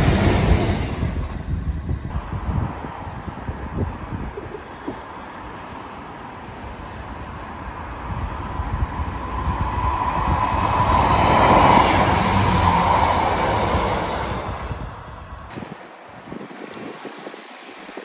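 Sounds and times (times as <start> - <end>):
diesel train passing: 0.0 - 15.5.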